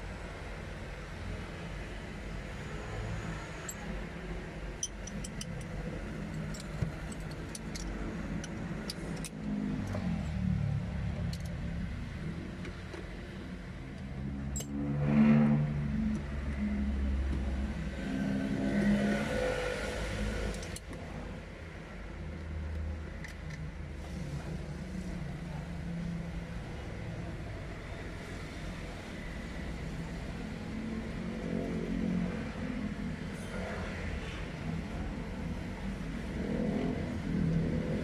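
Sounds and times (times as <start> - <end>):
vehicle engine rumbling and revving: 0.0 - 38.0.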